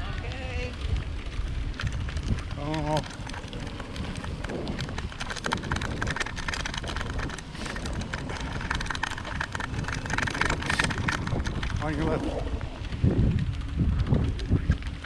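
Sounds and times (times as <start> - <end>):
road and tyre noise: 0.0 - 15.0
wind rushing over microphone: 0.0 - 15.0
small rattling clicks: 0.8 - 15.0.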